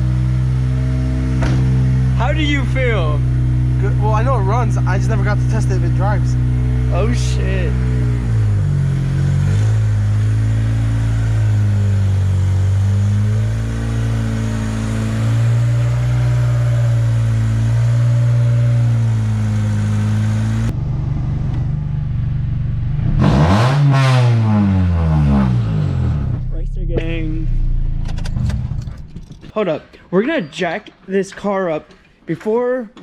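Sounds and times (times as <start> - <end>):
car engine running and revving: 0.0 - 29.5.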